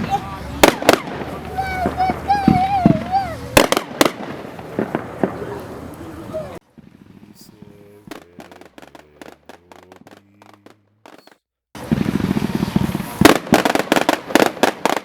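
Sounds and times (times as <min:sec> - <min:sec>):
firework cake shots: 0:00.0 - 0:15.0.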